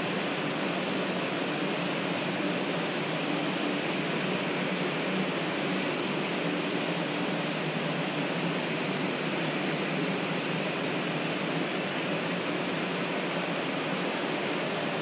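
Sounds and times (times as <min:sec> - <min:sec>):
train cooling fans humming: 0:00.0 - 0:15.0.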